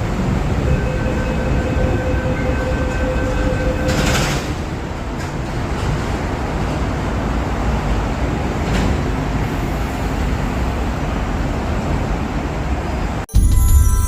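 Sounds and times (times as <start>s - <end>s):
train running through station: 0.0s - 14.0s.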